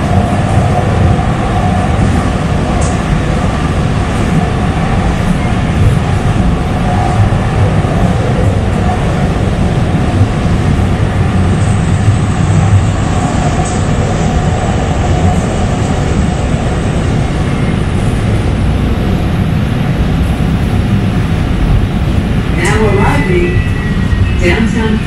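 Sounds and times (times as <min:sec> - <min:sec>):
train wheels on rails rumbling: 0:00.0 - 0:25.0.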